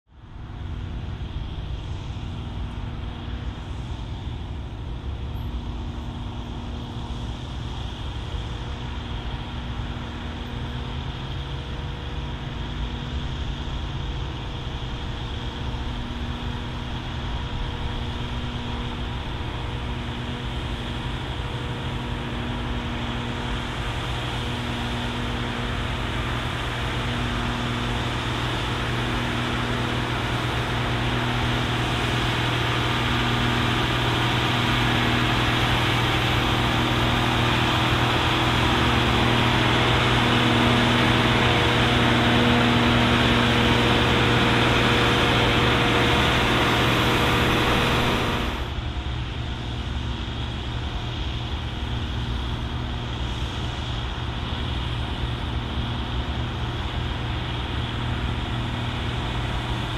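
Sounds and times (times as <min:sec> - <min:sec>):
tractor diesel engine running: 0:00.1 - 0:59.9.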